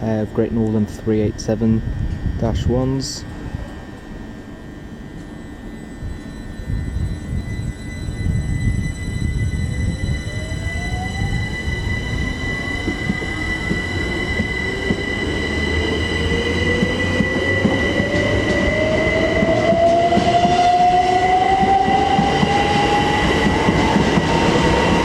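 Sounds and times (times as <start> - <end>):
rail rumble: 0.0 - 25.0
steady high tone: 0.0 - 25.0
electric train motors whining: 0.6 - 25.0.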